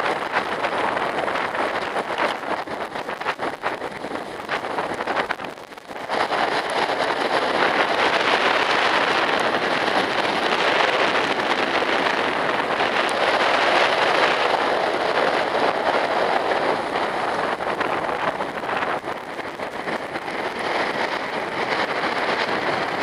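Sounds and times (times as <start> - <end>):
strong wind blowing: 0.0 - 23.0.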